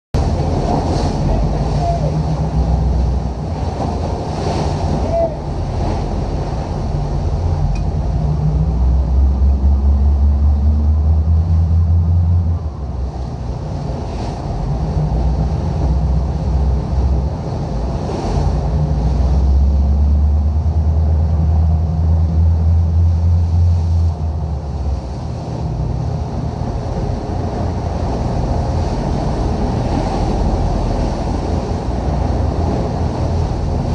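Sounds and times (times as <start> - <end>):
deep rumble: 0.1 - 33.9
wind: 0.1 - 33.9
sea waves: 0.2 - 33.9.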